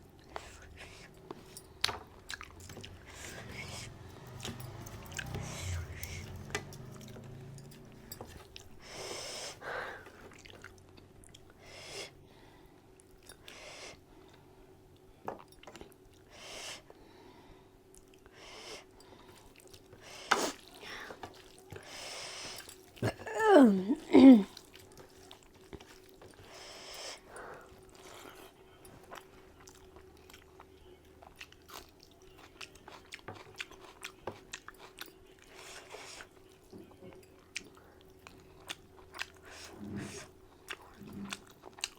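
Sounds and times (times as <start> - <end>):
faint steady hum: 0.0 - 41.9
person chewing and eating: 0.1 - 11.6, 17.9 - 41.9.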